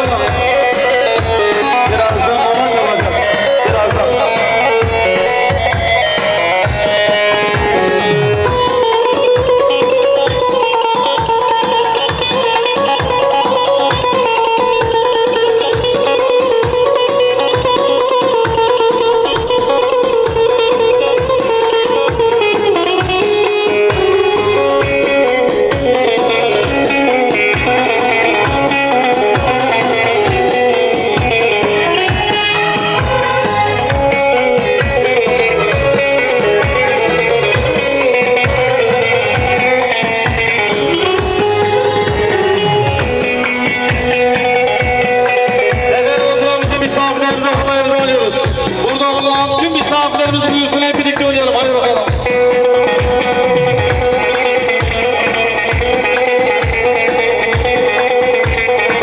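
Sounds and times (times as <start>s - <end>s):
plucked string melody: 0.0s - 59.0s
steady dance beat: 0.0s - 59.0s.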